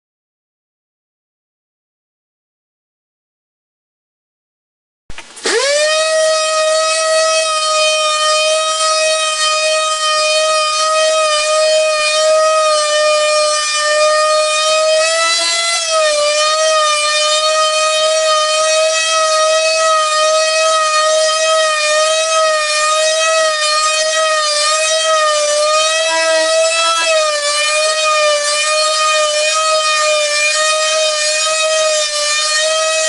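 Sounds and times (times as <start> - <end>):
electric sander whining: 5.4 - 33.0.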